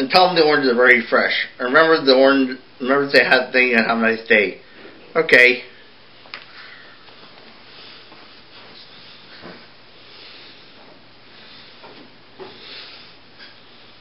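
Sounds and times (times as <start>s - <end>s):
low room tone hiss: 0.0s - 14.0s.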